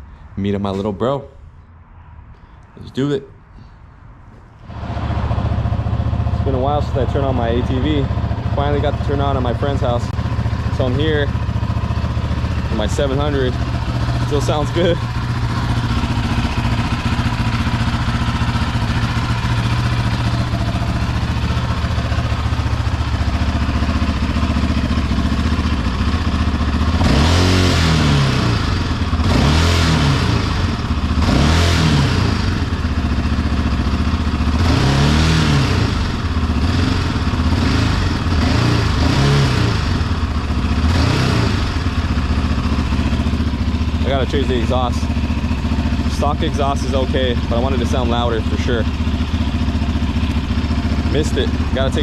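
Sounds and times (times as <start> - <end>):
engine idling and revving: 4.6 - 52.0.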